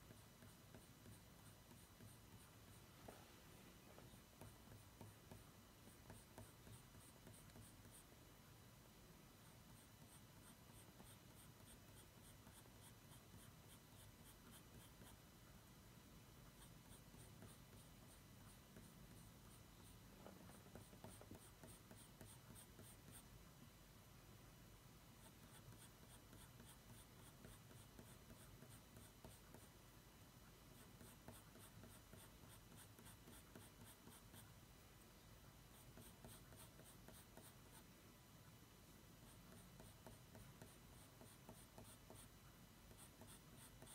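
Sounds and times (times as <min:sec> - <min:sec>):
pencil scratching on paper: 0:00.0 - 0:03.2, 0:03.8 - 0:08.1, 0:09.4 - 0:15.2, 0:16.5 - 0:23.3, 0:25.2 - 0:29.8, 0:30.7 - 0:34.5, 0:35.7 - 0:37.9, 0:39.2 - 0:43.9.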